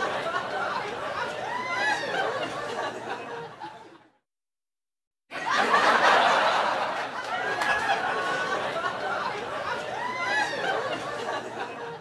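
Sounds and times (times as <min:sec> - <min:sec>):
people laughing: 0:00.0 - 0:04.2, 0:05.3 - 0:12.0.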